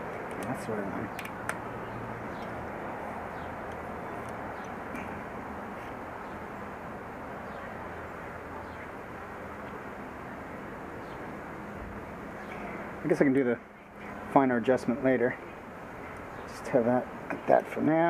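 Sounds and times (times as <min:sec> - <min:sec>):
distant traffic: 0:00.0 - 0:18.0.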